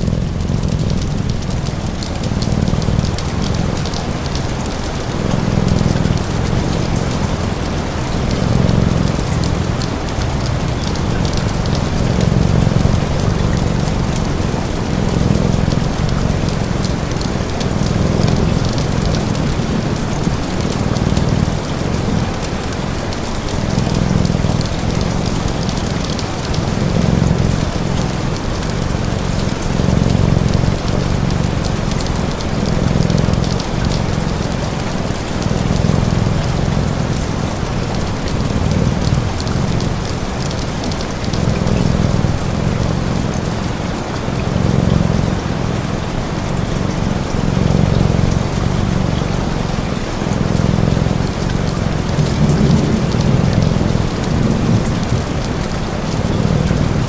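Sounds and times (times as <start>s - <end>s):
fire crackling: 0.0s - 49.1s
low purr: 0.0s - 57.0s
steady rain: 0.0s - 57.0s.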